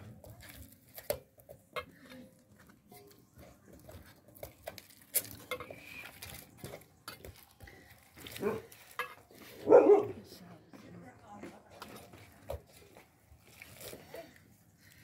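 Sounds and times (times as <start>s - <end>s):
hands scraping and patting dough: 0.0s - 15.0s.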